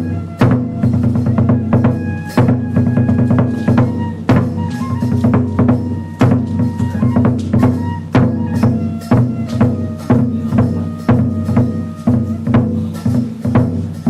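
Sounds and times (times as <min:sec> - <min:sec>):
drum struck in steady beat: 0:00.0 - 0:14.0.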